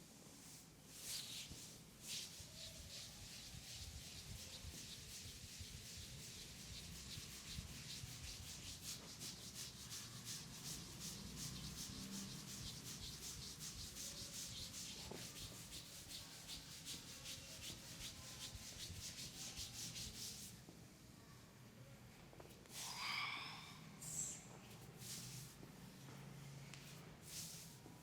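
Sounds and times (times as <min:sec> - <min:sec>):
hands rubbing in massage: 0:00.4 - 0:20.6, 0:24.6 - 0:25.7, 0:26.7 - 0:28.0.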